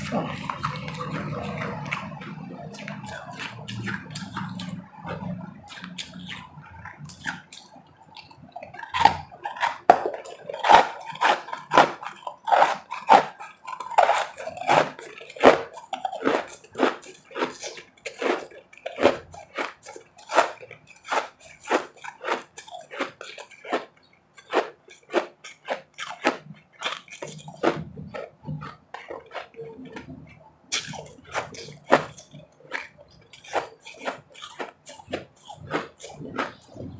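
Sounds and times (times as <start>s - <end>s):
chewing crunchy snow ice: 0.0s - 36.9s.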